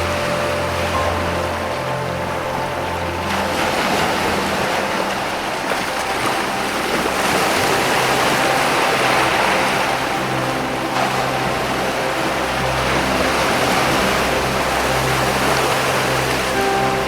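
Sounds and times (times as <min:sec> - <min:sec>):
ocean waves washing against rocks: 0:00.0 - 0:17.0.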